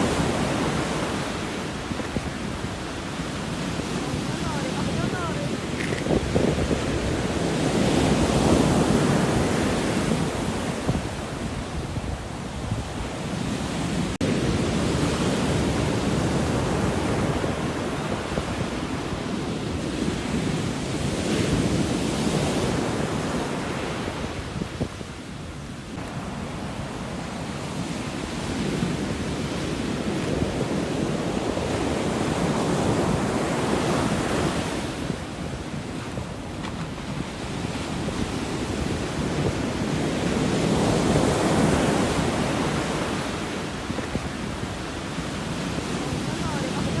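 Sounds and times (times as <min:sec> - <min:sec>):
sea waves breaking ashore: 0:00.0 - 0:47.0.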